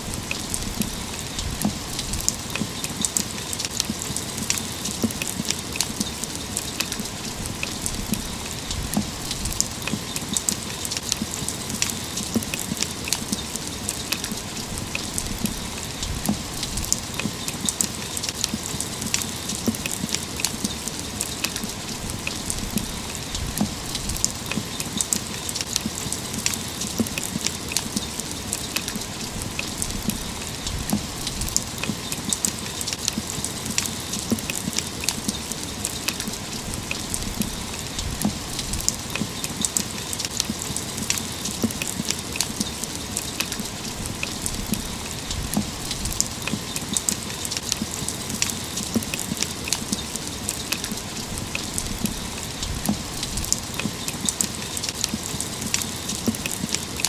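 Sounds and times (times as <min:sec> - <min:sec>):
rain falling: 0:00.0 - 0:57.0
raindrops tapping: 0:00.0 - 0:57.0.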